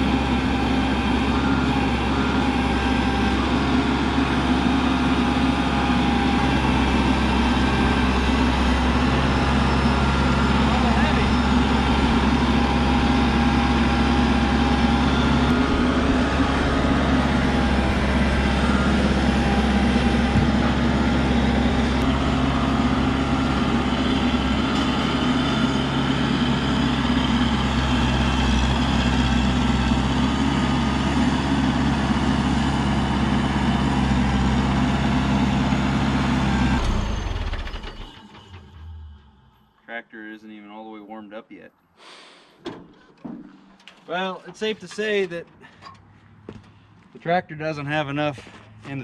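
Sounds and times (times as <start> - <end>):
tractor diesel engine running: 0.0 - 39.8.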